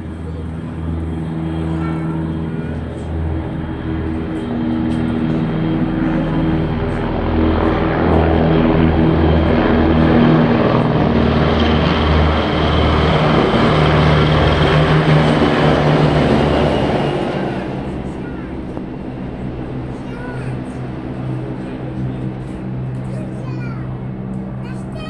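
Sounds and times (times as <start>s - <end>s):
helicopters flying past: 0.0s - 25.0s.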